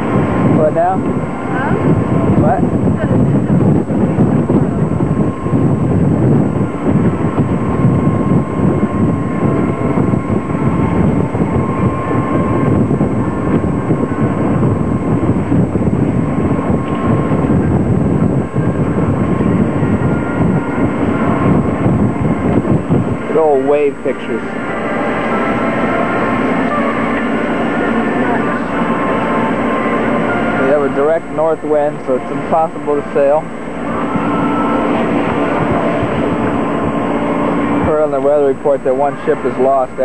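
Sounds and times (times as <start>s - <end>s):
wind blowing across microphone: 0.0s - 40.0s.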